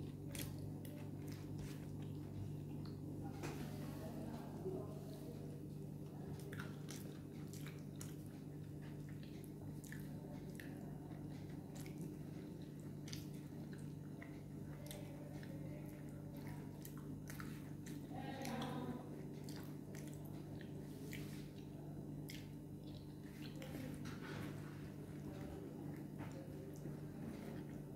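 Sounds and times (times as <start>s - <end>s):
person chewing food: 0.0s - 3.3s, 5.2s - 27.9s.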